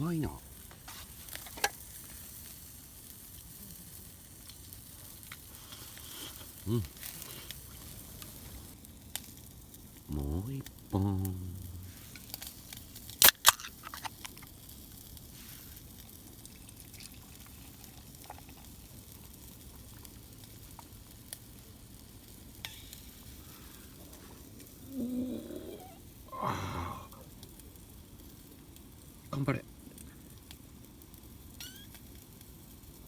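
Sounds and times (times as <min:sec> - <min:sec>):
sausages sizzling over fire: 0:00.0 - 0:33.0.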